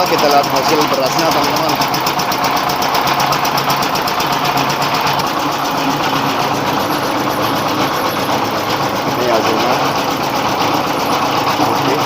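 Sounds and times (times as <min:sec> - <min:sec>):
diesel engine driving mill: 0:00.0 - 0:12.0.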